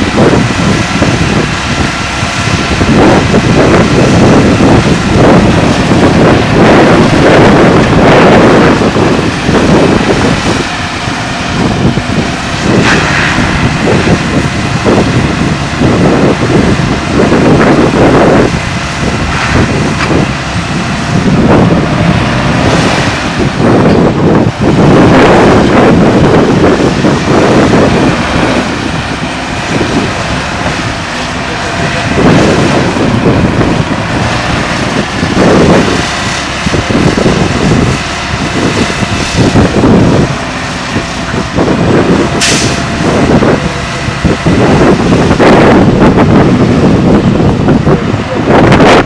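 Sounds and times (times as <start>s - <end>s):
truck diesel engine revving: 0.0s - 49.0s
wind buffeting microphone: 0.0s - 49.0s.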